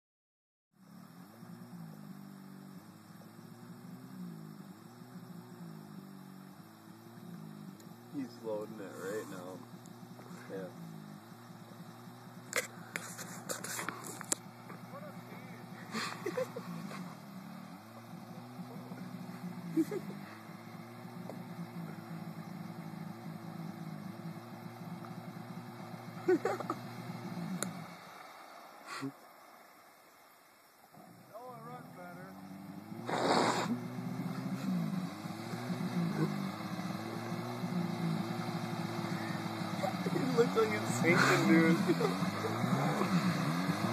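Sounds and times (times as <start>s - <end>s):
faint jet ski engine: 0.8s - 43.9s.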